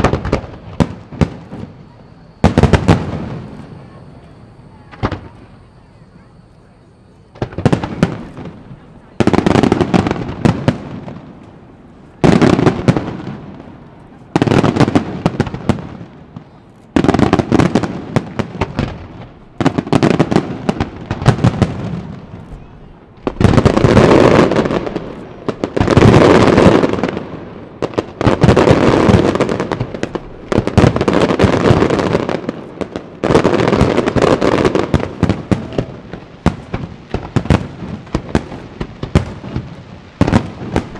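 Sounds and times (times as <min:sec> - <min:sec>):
fireworks bangs: 0:00.0 - 0:40.9
fireworks crackling: 0:00.0 - 0:40.9.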